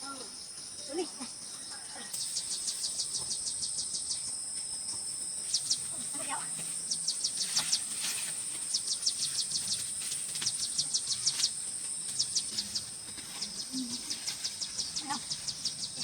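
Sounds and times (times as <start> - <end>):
insect chirps: 0.0 - 16.0
insects buzzing high-pitched: 0.0 - 16.0.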